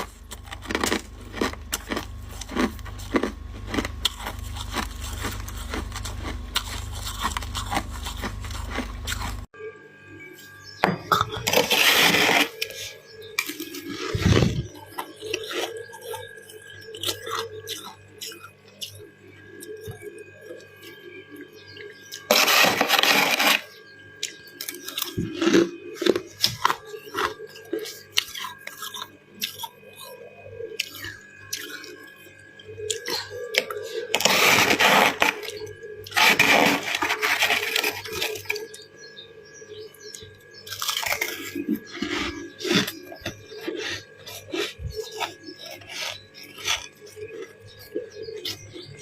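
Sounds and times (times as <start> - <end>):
crunching and chewing ice: 0.0 - 9.5, 11.1 - 49.0.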